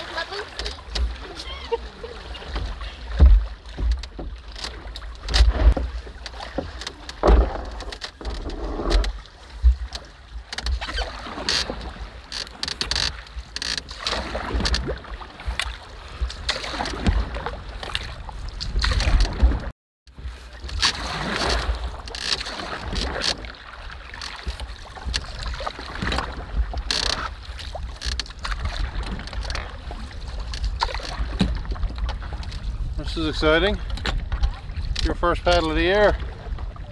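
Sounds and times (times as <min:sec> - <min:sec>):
paddle and hull knocks: 0:00.0 - 0:36.9
paddle splashes in water: 0:00.0 - 0:36.9
wind rumbling on microphone: 0:00.0 - 0:36.9.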